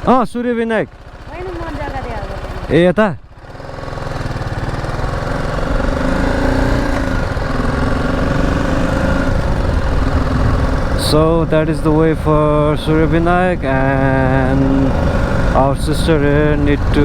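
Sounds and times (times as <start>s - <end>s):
motorcycle engine pulling away: 0.9s - 17.0s.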